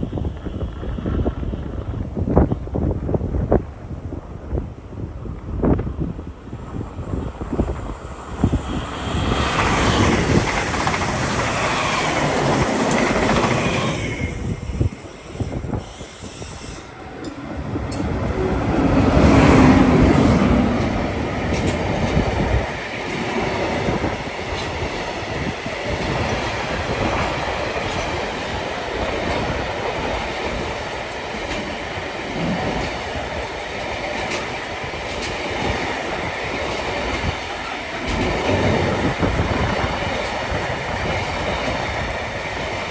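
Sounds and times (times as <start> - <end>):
train wheels on rails: 5.3 - 42.9.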